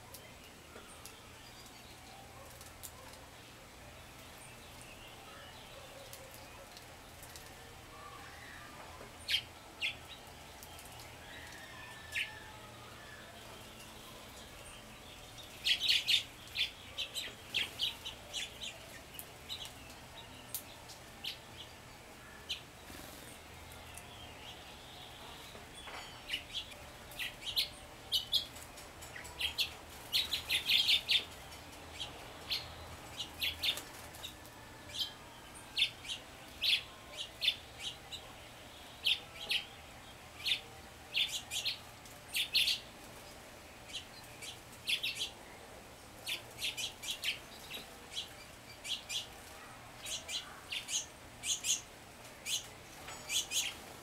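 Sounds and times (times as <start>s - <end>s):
faint background hiss: 0.0s - 54.0s
songbirds chirping: 0.0s - 54.0s.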